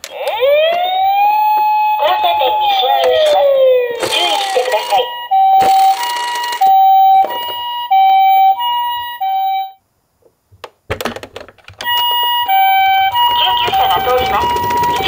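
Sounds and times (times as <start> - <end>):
two-tone toy siren: 0.0 - 9.8, 11.8 - 15.0.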